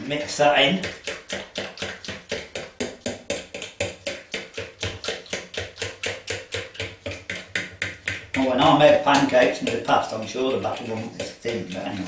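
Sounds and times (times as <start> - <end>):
batter whisked in bowl: 0.0 - 12.0.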